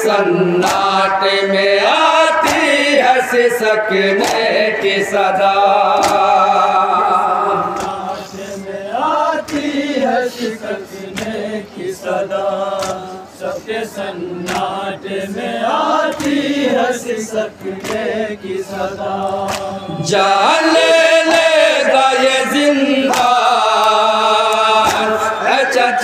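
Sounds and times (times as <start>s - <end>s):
men chanting a lament: 0.0s - 26.0s.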